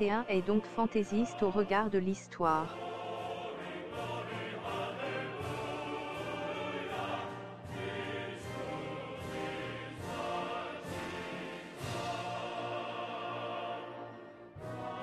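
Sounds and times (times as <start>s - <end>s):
choir and orchestra music: 2.6s - 15.0s.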